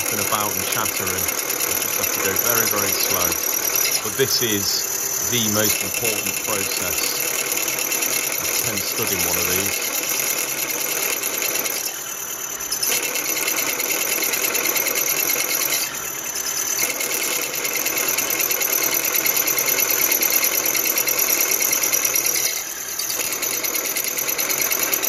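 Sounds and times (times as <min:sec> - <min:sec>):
end mill machining whirr: 0:00.0 - 0:25.0.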